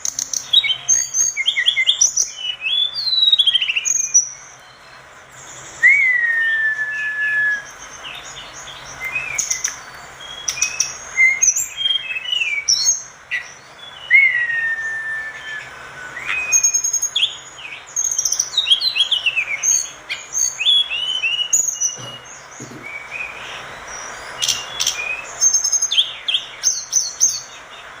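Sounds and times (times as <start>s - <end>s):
songbird singing: 0.0s - 28.0s.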